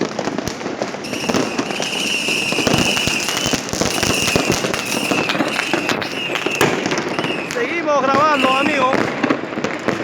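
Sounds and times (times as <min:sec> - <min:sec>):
firecrackers crackling: 0:00.0 - 0:10.0
high whistling firework: 0:00.9 - 0:09.5.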